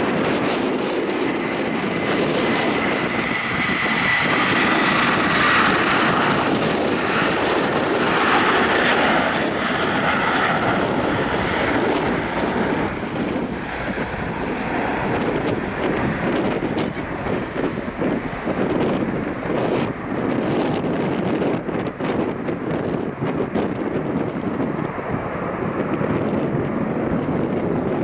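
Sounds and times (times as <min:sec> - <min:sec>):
jet engine roar: 0:00.0 - 0:28.0.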